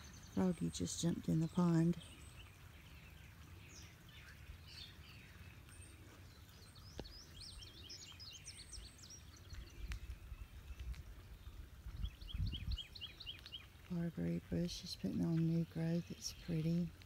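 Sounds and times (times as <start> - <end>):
faint birdsong chirps and whistles: 0.0 - 13.8.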